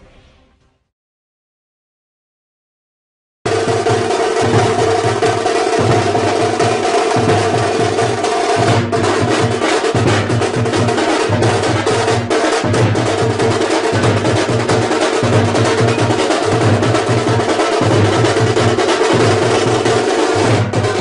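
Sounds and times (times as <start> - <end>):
bass drum beats: 3.5 - 21.0
snare drum rolls: 3.5 - 21.0.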